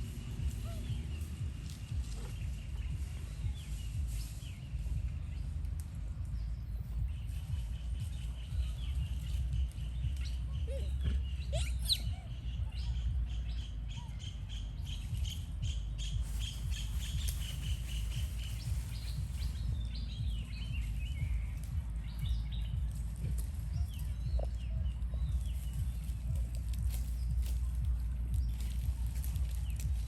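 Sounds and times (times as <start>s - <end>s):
birds chirping: 0.0s - 30.0s
steady low rumble: 0.0s - 30.0s.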